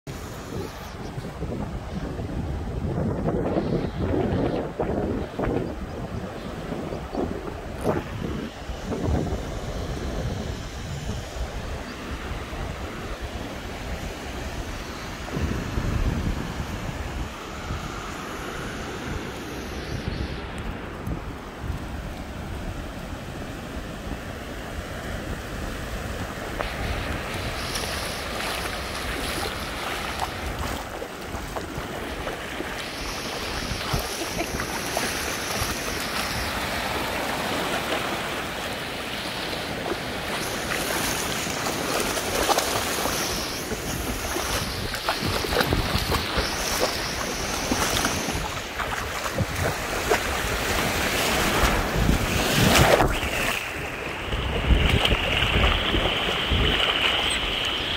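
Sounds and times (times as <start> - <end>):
ocean surf washing in: 0.1 - 57.9
wind buffeting microphone: 0.1 - 57.9.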